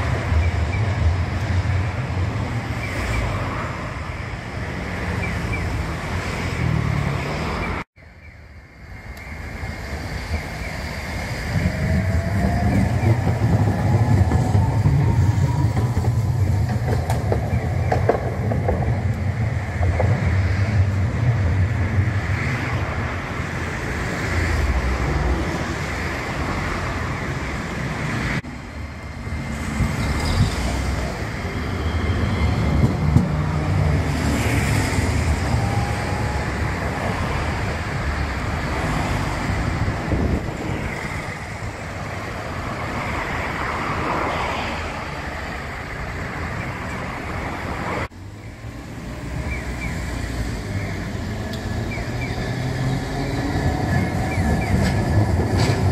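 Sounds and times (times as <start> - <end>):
tram wheels rumbling on rail: 0.0 - 7.8, 8.6 - 55.9
road traffic passing: 0.0 - 55.9
tram whine: 0.0 - 55.9.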